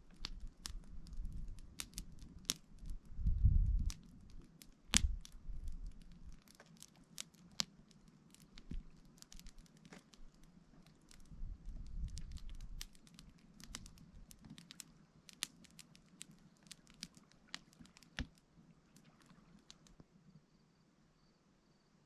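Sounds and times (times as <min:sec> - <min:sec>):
raindrops pattering on tent: 0:00.0 - 0:20.0.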